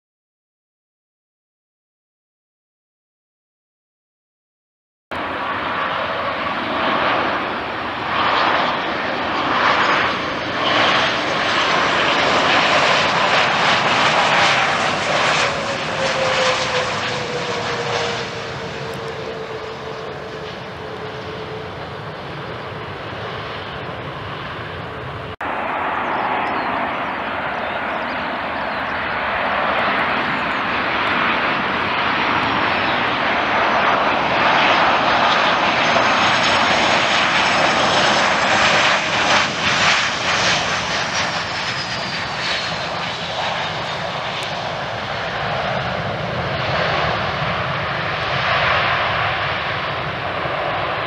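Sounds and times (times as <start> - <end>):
jet engines roaring: 5.2 - 51.0.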